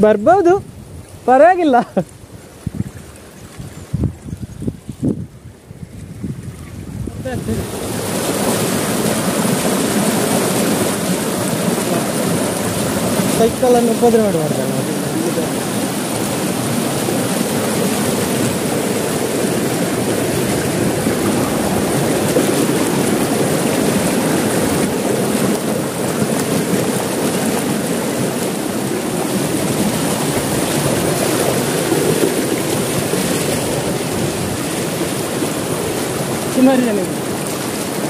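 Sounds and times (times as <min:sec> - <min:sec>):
water rushing over rock: 0:00.0 - 0:38.0.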